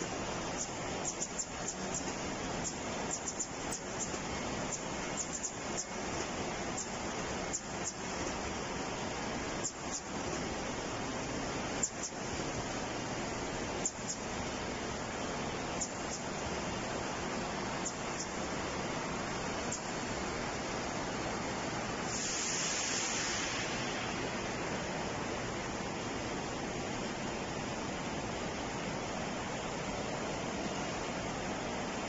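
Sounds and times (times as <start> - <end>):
machine air rush and fans: 0.0 - 32.0.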